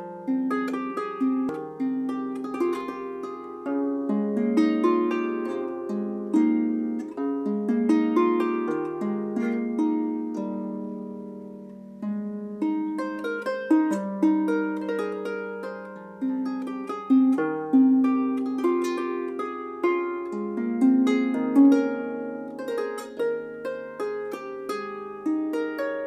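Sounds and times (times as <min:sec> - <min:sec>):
harp playing: 0:00.0 - 0:26.0.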